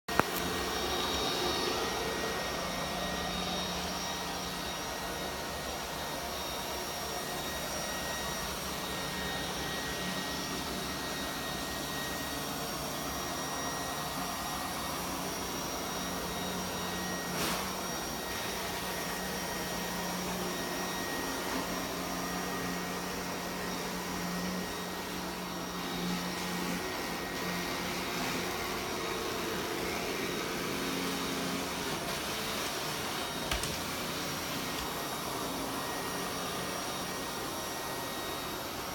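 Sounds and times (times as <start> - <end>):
robot vacuum cleaner humming: 0.1 - 38.9.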